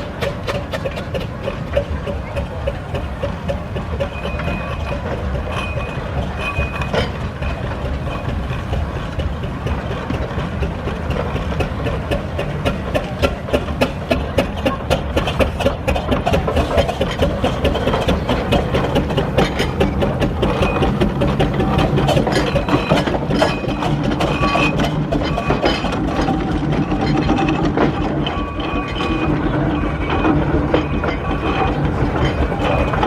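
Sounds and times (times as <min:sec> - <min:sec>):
mechanical rumble: 0:00.0 - 0:33.0
steam engine clatter: 0:00.0 - 0:33.0.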